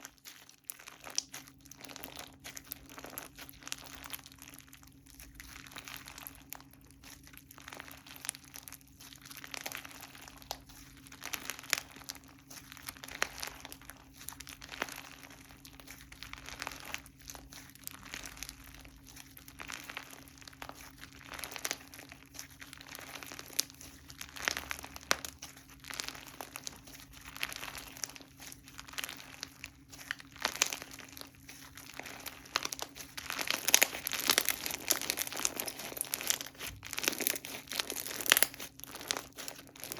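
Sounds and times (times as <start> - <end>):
faint steady hum: 0.0 - 39.9
slime crackling and popping: 0.0 - 39.9.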